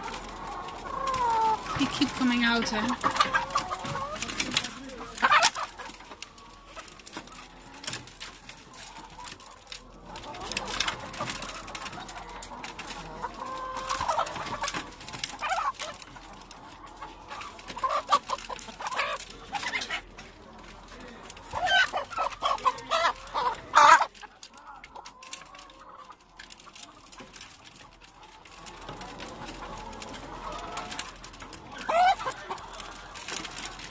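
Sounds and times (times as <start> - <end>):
hens squawking and clucking: 0.0 - 33.9.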